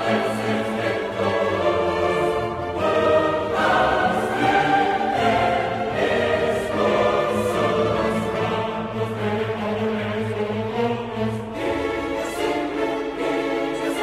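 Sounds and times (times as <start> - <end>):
choir singing: 0.0 - 14.0
orchestral accompaniment: 0.0 - 14.0.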